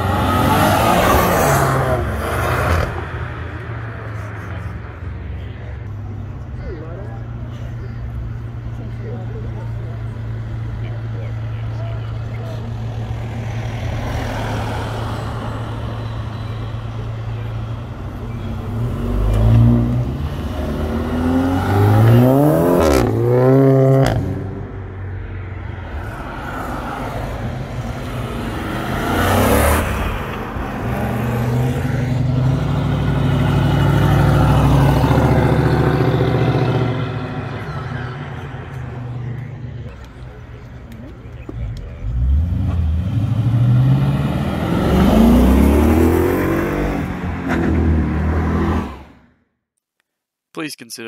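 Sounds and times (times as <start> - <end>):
car engines revving: 0.0 - 49.4.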